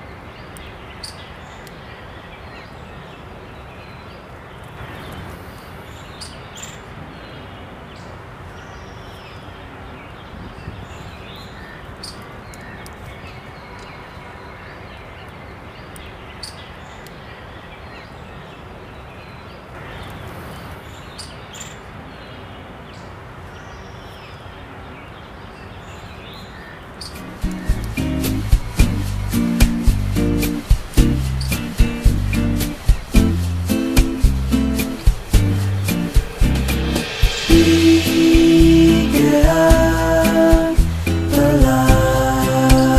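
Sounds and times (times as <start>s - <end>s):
steady background hiss: 0.0s - 42.9s.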